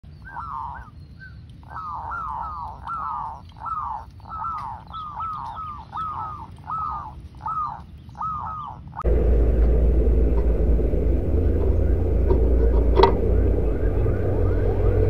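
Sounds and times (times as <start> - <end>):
doves calling: 0.0 - 15.0.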